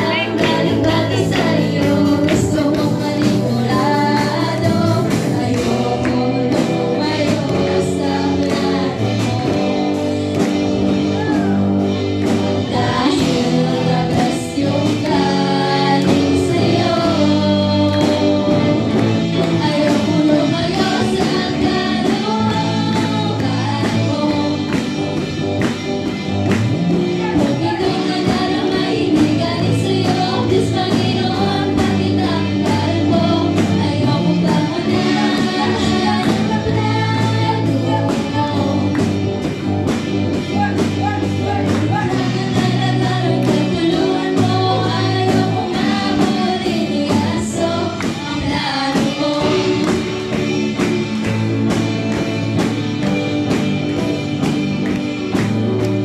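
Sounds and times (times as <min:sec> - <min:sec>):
women singing: 0:00.0 - 0:11.6, 0:12.5 - 0:25.1, 0:27.1 - 0:39.3, 0:41.3 - 0:51.0
drum beat: 0:00.0 - 0:32.3, 0:33.2 - 0:46.5
electric guitars: 0:00.0 - 0:56.0
keyboard: 0:00.0 - 0:56.0.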